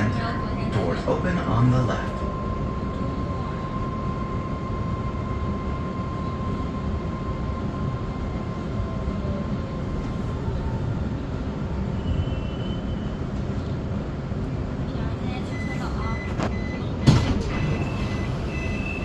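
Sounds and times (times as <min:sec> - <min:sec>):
metro train wheels rumbling: 0:00.0 - 0:19.0.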